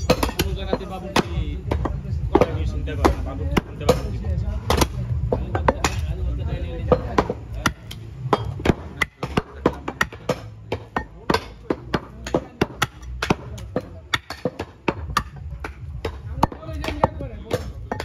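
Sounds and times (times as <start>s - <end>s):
cleavers chopping on wooden block: 0.0s - 6.2s, 6.8s - 18.0s.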